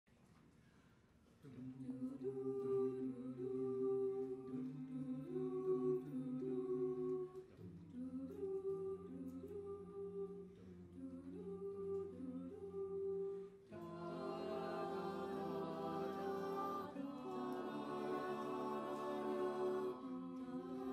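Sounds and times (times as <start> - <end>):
a cappella ensemble singing chords: 1.4 - 20.9.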